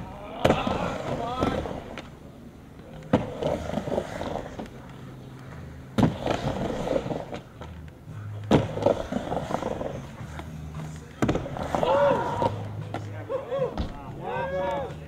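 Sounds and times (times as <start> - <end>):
skateboard wheels rolling on wood: 0.0 - 15.0.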